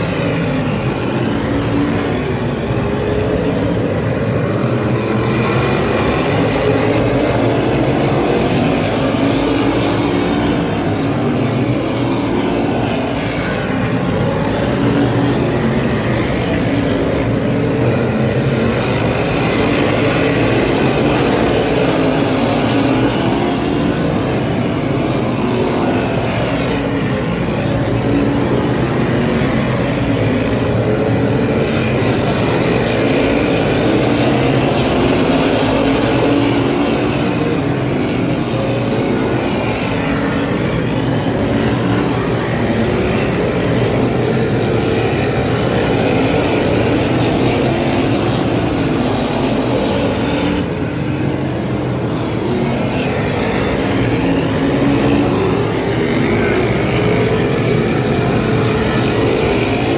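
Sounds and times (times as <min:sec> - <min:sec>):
race car engines roaring past: 0:00.0 - 0:59.9.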